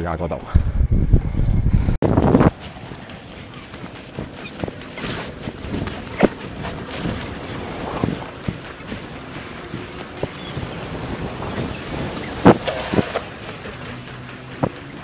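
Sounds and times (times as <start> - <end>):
wind buffeting microphone: 0.4 - 13.9
skate wheels rolling on pavement: 2.3 - 14.8.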